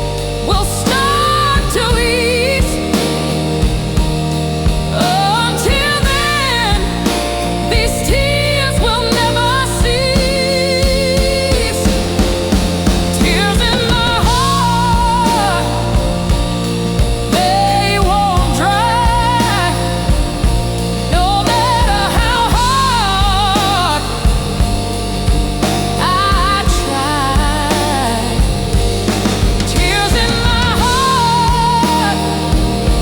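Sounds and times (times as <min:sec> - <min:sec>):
slow blues instrumental: 0:00.0 - 0:33.0.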